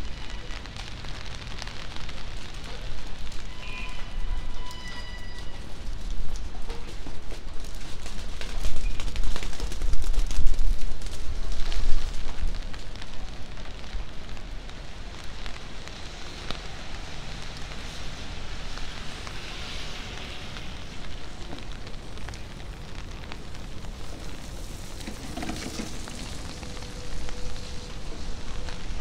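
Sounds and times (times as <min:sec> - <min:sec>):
light rain pattering: 0:00.0 - 0:29.0.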